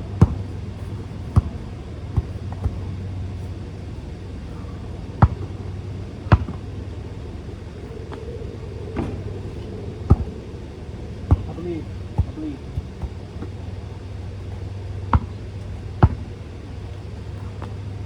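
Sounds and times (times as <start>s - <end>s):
basketball bouncing: 0.0s - 7.0s, 9.0s - 18.0s
low rumble: 0.0s - 18.0s.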